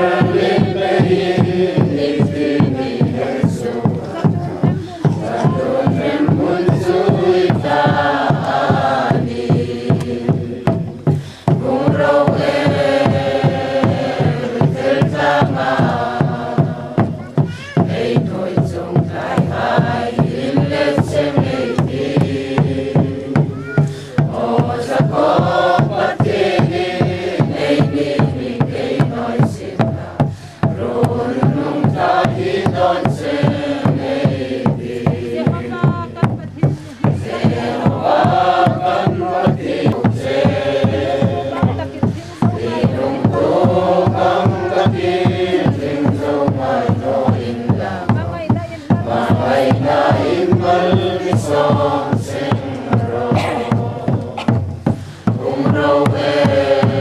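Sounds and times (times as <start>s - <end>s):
group singing a hymn: 0.0s - 57.0s
regular beat: 0.0s - 57.0s.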